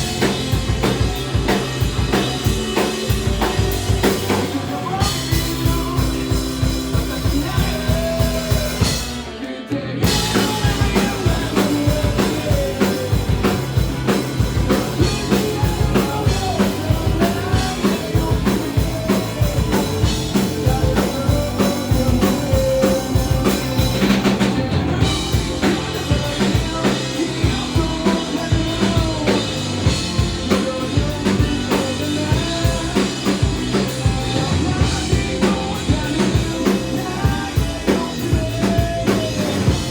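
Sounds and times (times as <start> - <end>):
fast drum-kit beat: 0.0 - 9.4, 10.0 - 39.9
punk rock band playing: 0.0 - 39.9.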